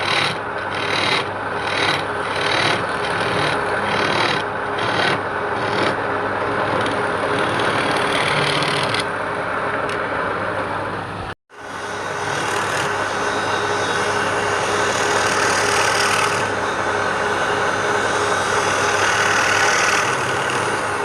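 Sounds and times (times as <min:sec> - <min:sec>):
abrasive tool scraping wood: 0:00.0 - 0:06.0, 0:06.6 - 0:09.1, 0:11.8 - 0:21.0
faint machine hum: 0:00.0 - 0:21.0.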